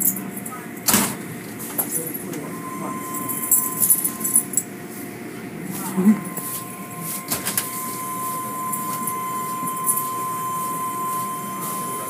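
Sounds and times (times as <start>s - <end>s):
high machinery whine: 0.0s - 12.0s.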